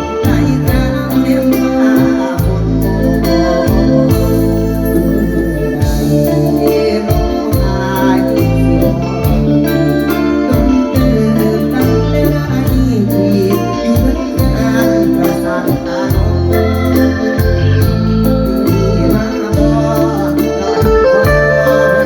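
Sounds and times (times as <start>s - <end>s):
bass and drums beat: 0.0s - 22.0s
live band music: 0.0s - 22.0s
sustained lead melody: 0.0s - 22.0s.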